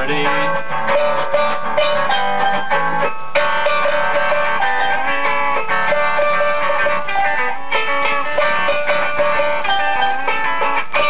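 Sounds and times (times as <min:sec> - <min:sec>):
guitar picked notes: 0:00.0 - 0:11.0.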